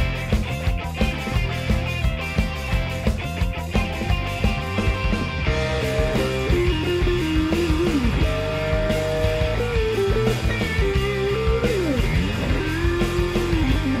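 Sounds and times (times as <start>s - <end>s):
rock music with sliding guitar: 0.0s - 14.0s.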